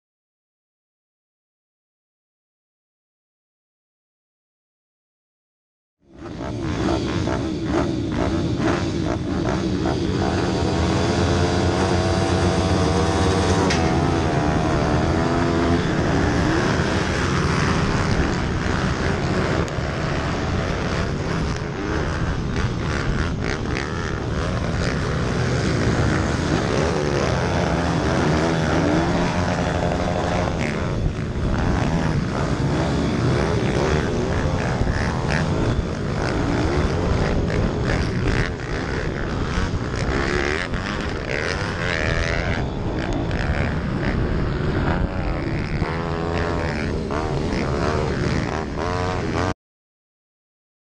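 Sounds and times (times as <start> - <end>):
minibike engines revving: 6.1 - 49.5
wind buffeting microphone: 7.2 - 49.5.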